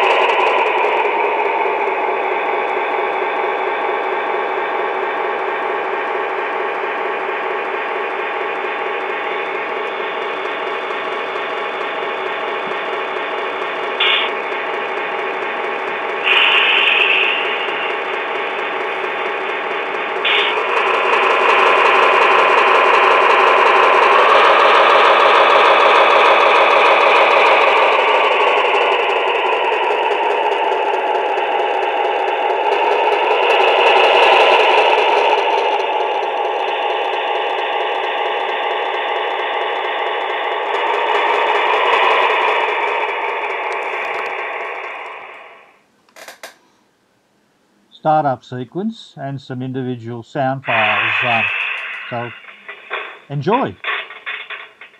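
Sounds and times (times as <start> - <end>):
diesel engine sound from small speaker: 0.0 - 45.4, 47.9 - 53.8.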